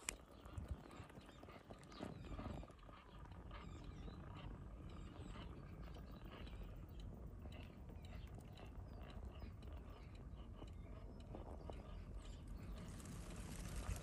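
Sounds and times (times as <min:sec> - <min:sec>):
small clicks and ticks: 0:00.0 - 0:14.0
steady low rumble: 0:00.1 - 0:14.0.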